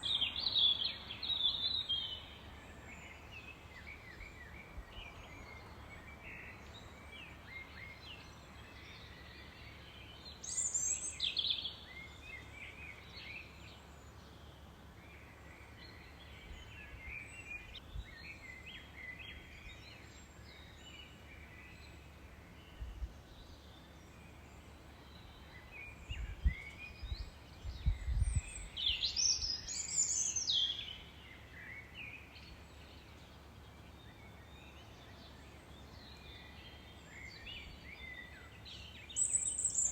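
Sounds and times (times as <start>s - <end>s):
faint outdoor hiss: 0.0s - 39.9s
songbirds singing and chirping: 0.0s - 39.9s.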